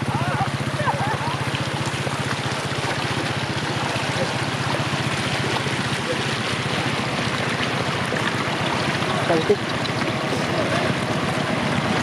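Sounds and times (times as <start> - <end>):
floodwater rushing and splashing: 0.0 - 12.0
low engine throb: 0.0 - 12.0.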